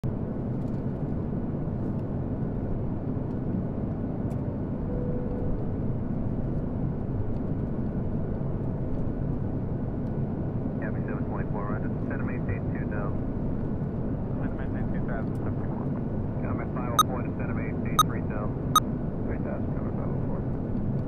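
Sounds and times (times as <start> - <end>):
airplane drone in flight: 0.0 - 21.0.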